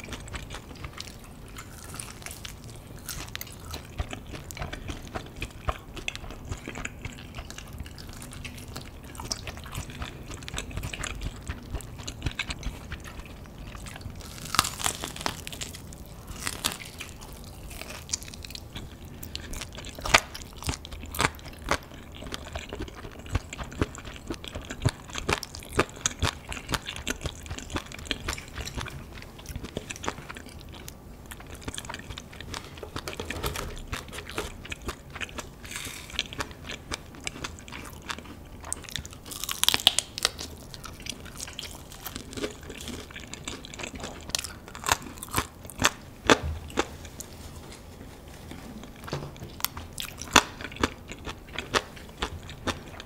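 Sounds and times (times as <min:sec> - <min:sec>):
crunchy chewing of fried chicken: 0:00.0 - 0:53.0.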